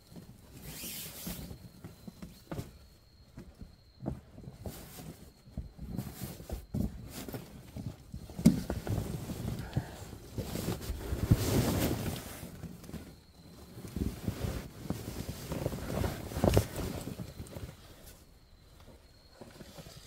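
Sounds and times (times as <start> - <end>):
tent fabric rustling: 0.0 - 20.0.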